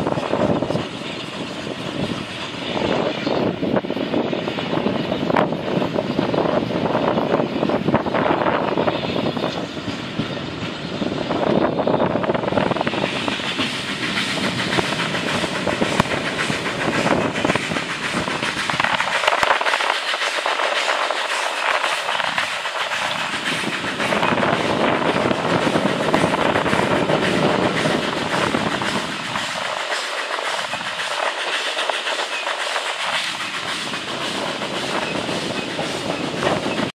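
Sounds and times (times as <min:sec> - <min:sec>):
train wheels clacking over rail joints: 0:00.0 - 0:36.9
train running noise: 0:00.0 - 0:37.0.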